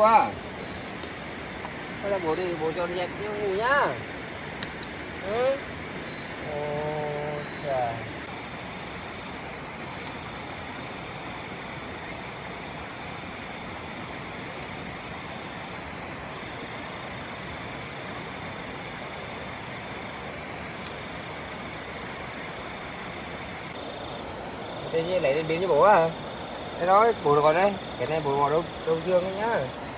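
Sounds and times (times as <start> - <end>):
night insects calling: 0.0 - 29.9
stream flowing: 0.0 - 29.9.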